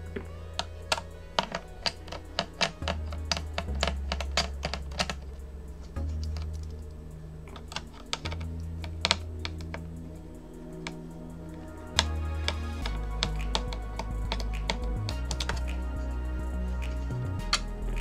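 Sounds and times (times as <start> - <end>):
background music with low notes: 0.0 - 18.0.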